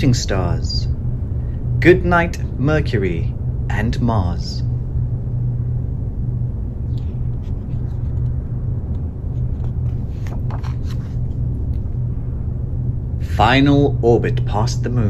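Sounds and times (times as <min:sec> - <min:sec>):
low rumbling engine drone: 0:00.0 - 0:15.0.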